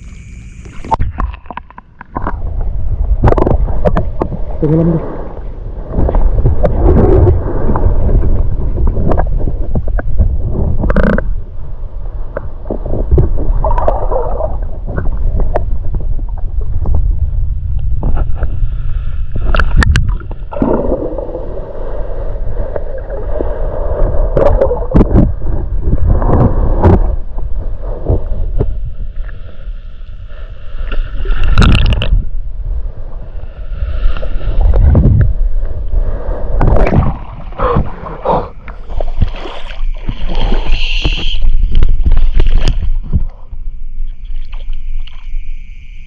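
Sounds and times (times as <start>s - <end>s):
underwater rumbling and gurgling: 0.0s - 46.0s.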